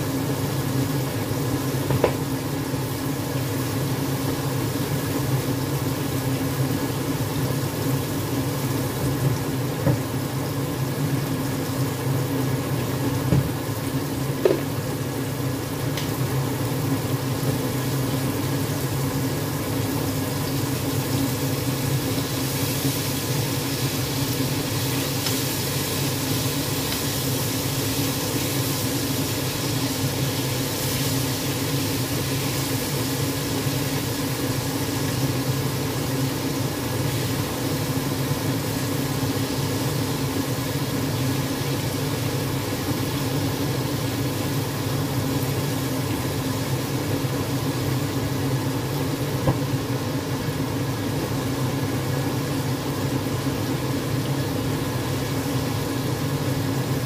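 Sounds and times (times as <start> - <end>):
chicken sizzling in oil: 0.0 - 57.0
low mechanical hum: 0.0 - 57.0.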